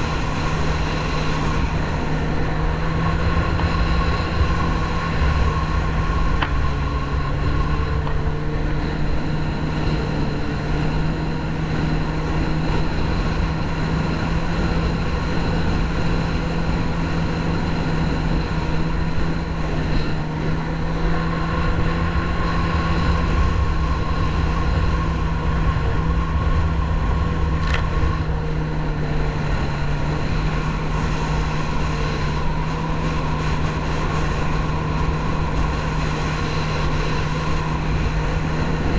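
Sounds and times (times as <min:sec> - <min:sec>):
boat engine droning: 0:00.0 - 0:38.9
wind noise: 0:00.0 - 0:38.9.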